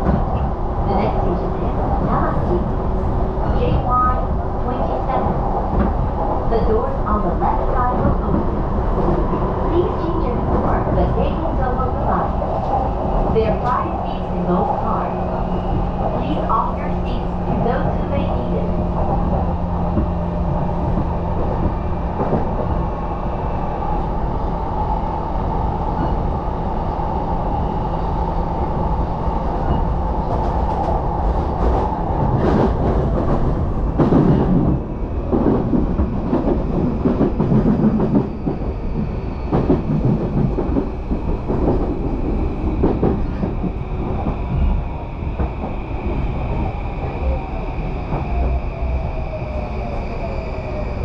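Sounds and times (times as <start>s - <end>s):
train rumble with whine: 0.0s - 51.0s.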